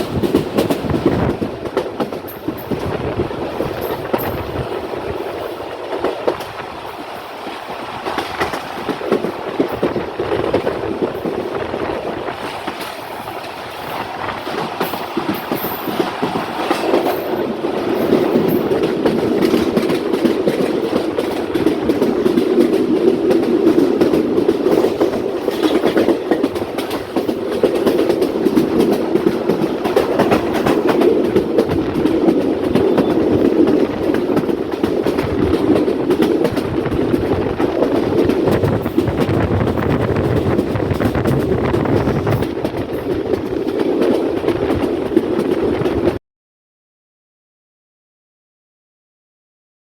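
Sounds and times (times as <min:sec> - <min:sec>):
train wheels clattering over rail joints: 0:00.0 - 0:11.5, 0:12.3 - 0:46.2.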